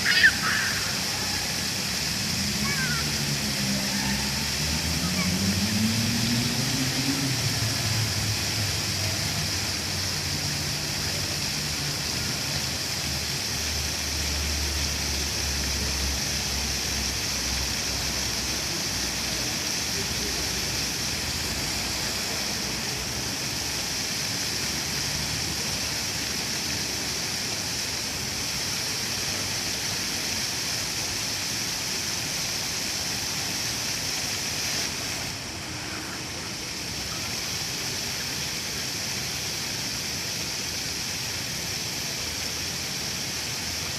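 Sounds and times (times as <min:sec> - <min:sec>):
water fountain splashing: 0:00.0 - 0:43.9.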